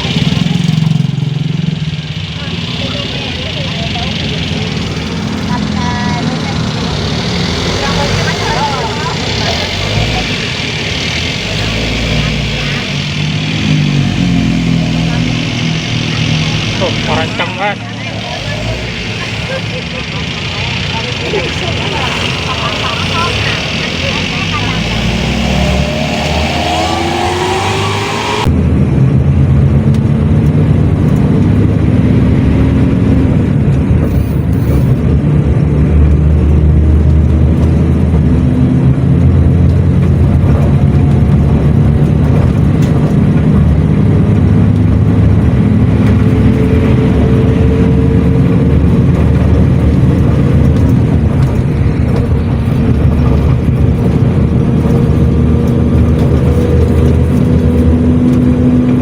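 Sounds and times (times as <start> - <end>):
boat engine droning: 0.0 - 28.6, 31.8 - 59.0.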